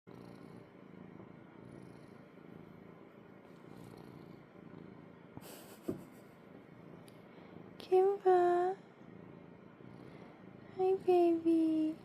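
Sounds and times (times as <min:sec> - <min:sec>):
cat purring: 0:00.1 - 0:12.0.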